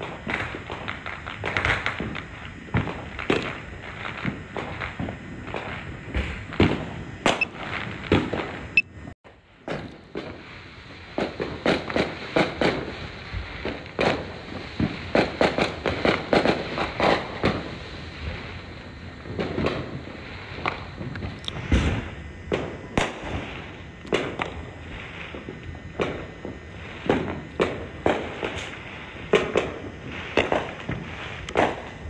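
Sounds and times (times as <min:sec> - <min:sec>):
fireworks bangs and pops: 0:00.0 - 0:08.7, 0:09.3 - 0:32.0.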